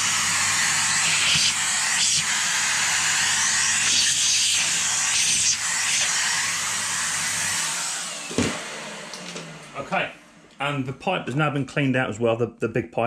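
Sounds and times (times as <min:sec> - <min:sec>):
vacuum cleaner running: 0:00.0 - 0:10.7.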